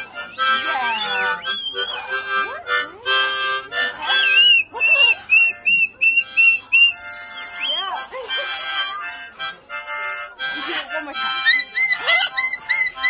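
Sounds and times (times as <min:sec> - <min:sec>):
harmonica playing: 0:00.0 - 0:13.0.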